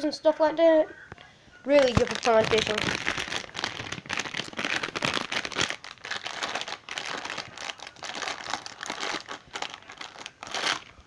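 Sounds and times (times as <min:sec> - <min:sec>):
plastic lure packets crinkling: 0:01.7 - 0:11.0.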